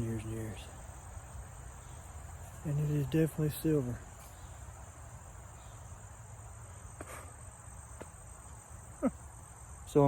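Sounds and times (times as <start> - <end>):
crickets and insects chirping: 0.0 - 10.0.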